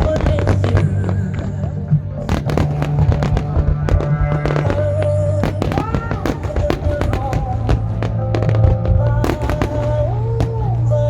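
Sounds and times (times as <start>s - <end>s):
fireworks bangs and crackles: 0.0s - 11.0s
loud music with bass: 0.0s - 11.0s.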